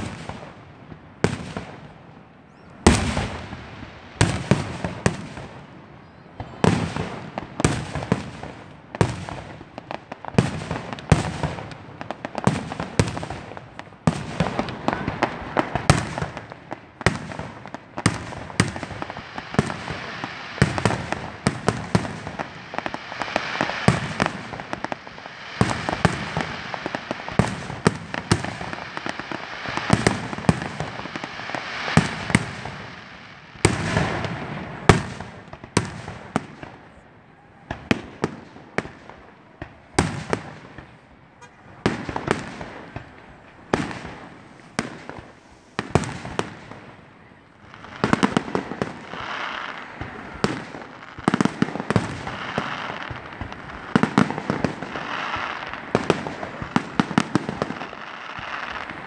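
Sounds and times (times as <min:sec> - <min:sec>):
fireworks bursting with bangs: 0:00.0 - 0:59.0.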